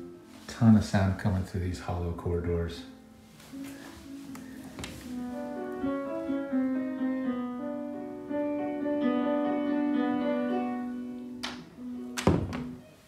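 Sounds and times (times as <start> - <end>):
piano through a door: 0.0 - 13.0.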